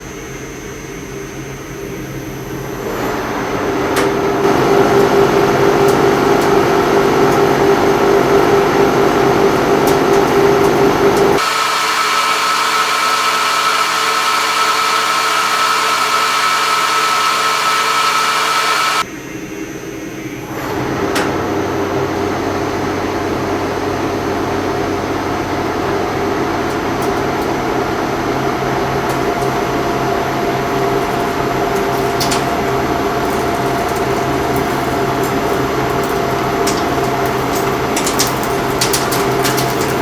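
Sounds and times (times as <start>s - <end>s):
metal lathe gear drone: 0.0s - 19.1s, 19.9s - 40.0s
high-pitched lathe whine: 0.0s - 38.2s.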